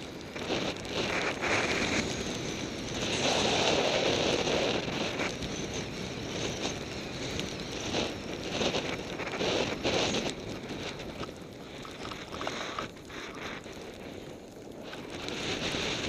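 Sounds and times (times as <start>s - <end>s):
snowboard sliding through snow: 0.0s - 16.0s
wind on microphone: 0.0s - 16.0s.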